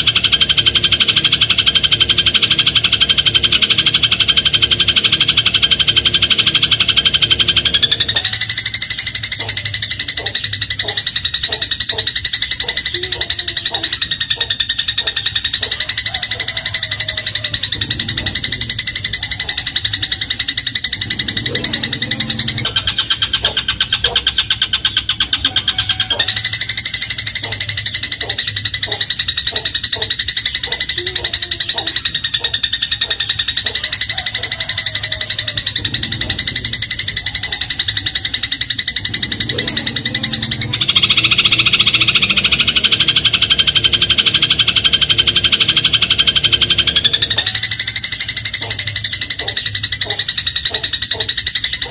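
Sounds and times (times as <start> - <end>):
sparrow chattering trill: 0.0 - 51.9.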